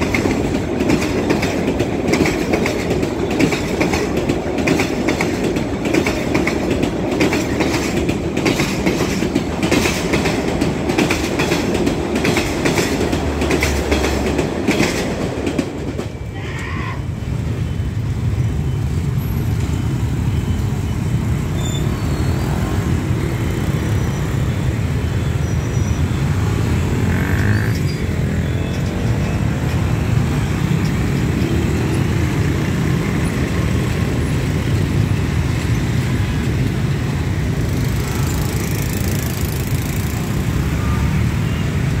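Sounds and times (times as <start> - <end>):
motorbike traffic rumbling: 0.0 - 42.0.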